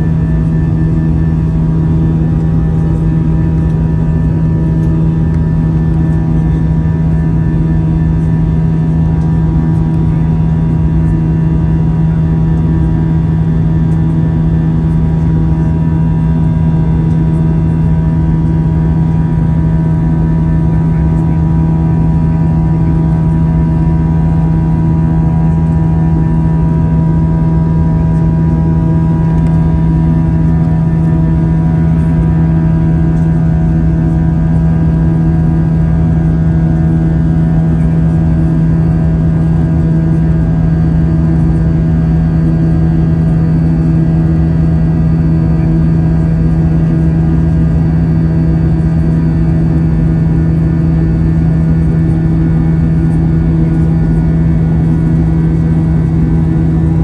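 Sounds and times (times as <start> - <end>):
jet engines drone in cabin: 0.0 - 57.0.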